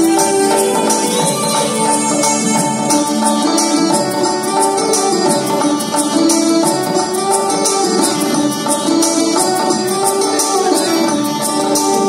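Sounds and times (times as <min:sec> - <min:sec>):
held melodic notes: 0:00.0 - 0:12.0.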